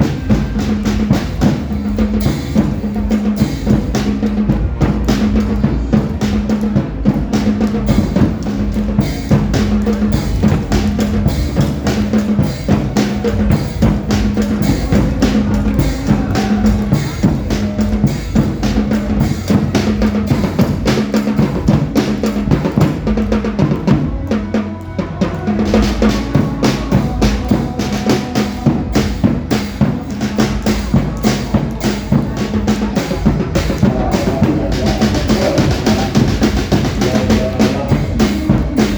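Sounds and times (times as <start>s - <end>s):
dance music with drum beat: 0.0s - 24.5s, 25.1s - 38.9s
repeating bass line: 0.0s - 38.9s.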